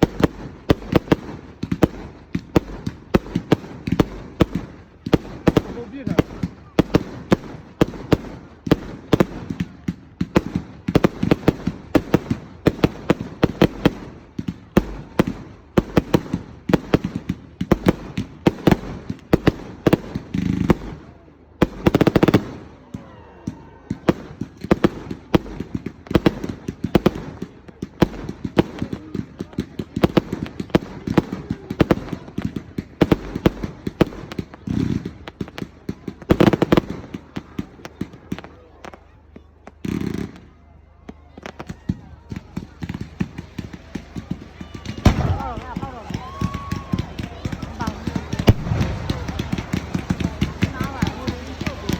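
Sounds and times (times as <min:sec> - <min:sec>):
fireworks crackling pops: 0:00.0 - 0:23.2, 0:23.9 - 0:51.9
loud firework bursts: 0:00.0 - 0:40.6, 0:41.3 - 0:51.9.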